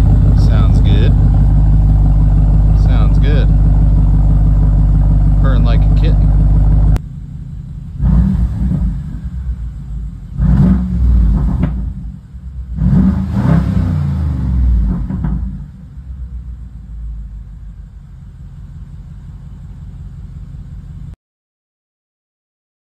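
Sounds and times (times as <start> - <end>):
car engine revving: 0.0 - 21.1
car engine idling: 0.0 - 21.2.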